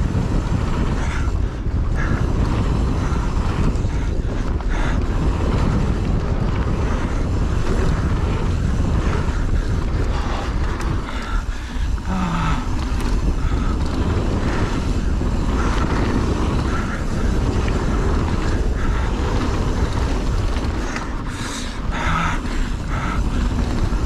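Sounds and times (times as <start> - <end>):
bicycle tyre noise: 0.0 - 24.0
wind rush on microphone: 0.0 - 24.0.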